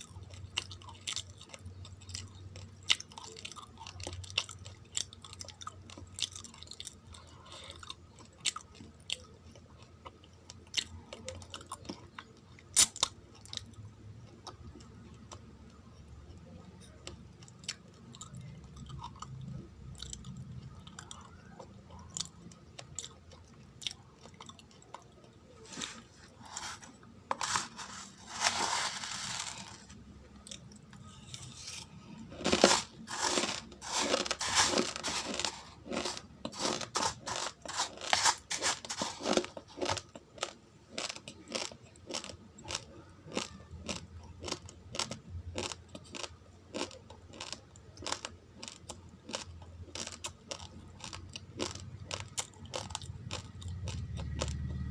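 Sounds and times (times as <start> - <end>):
chewing crunchy rice grains: 0.0 - 15.9, 16.8 - 54.9.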